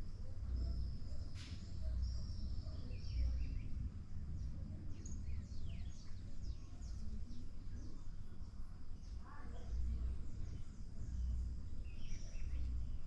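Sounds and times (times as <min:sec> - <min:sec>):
low steady rumble: 0:00.0 - 0:13.0
wild birds chirping: 0:00.0 - 0:13.0.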